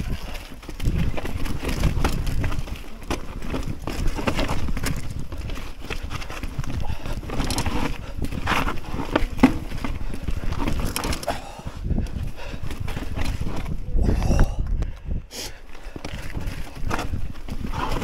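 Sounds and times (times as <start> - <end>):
bike rattling over rocks: 0.0 - 14.0, 15.8 - 18.0.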